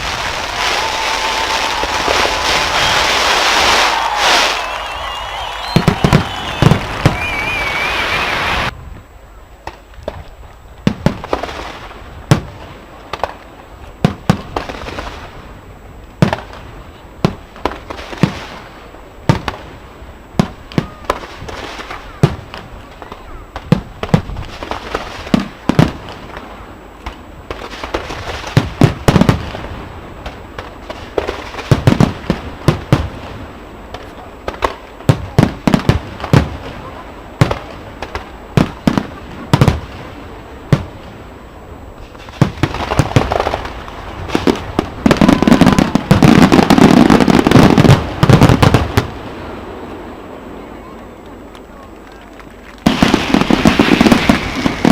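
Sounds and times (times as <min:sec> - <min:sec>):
fireworks bursting: 0:00.0 - 0:08.9, 0:09.6 - 0:54.9.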